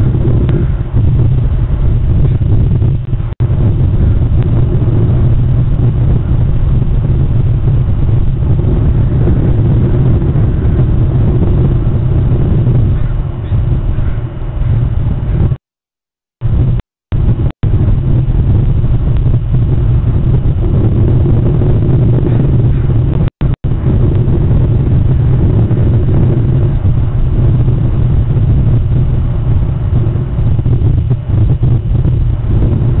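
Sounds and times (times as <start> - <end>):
wind buffeting microphone: 0.0 - 15.6, 16.4 - 33.0.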